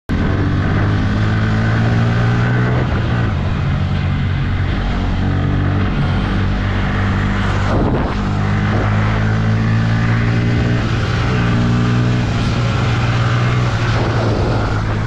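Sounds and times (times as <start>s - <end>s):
rushing wind noise: 0.1s - 15.0s.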